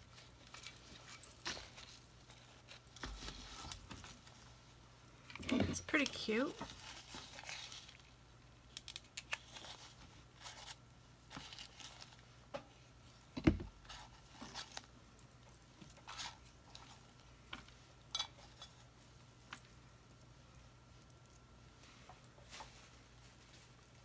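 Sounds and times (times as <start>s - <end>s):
rustling craft materials: 0.0s - 24.0s.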